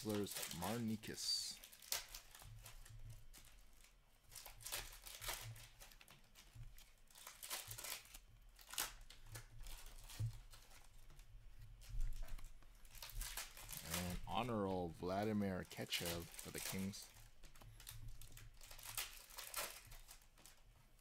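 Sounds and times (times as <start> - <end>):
cards rustling while flipped: 0.0 - 21.0.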